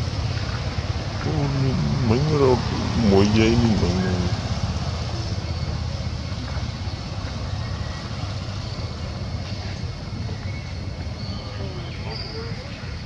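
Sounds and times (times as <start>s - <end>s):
low rumble with hiss: 0.0s - 13.0s.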